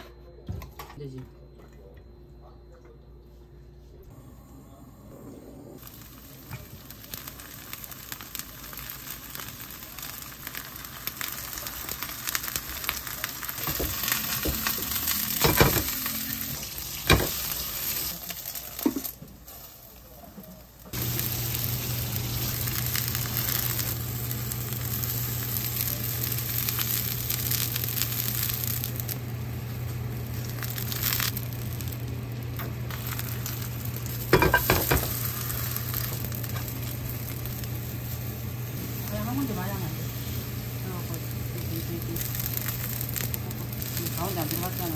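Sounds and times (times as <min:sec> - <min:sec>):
batter sizzling in oil: 0:05.8 - 0:44.9.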